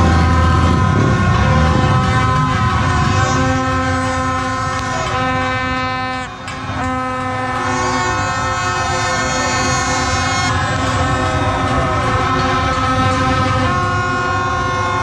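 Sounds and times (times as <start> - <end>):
crowd din: 0.0 - 15.0
many horns sounding: 0.0 - 15.0.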